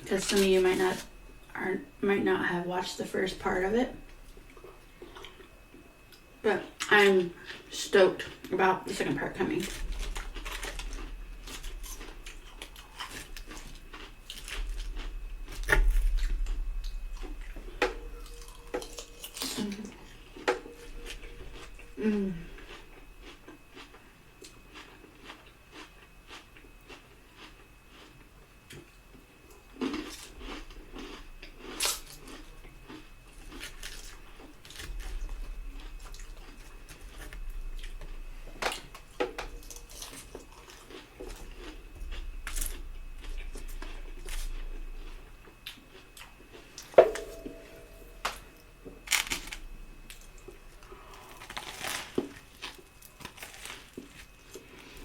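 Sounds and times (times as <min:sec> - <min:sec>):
person chewing: 0:04.3 - 0:05.5, 0:09.7 - 0:55.0.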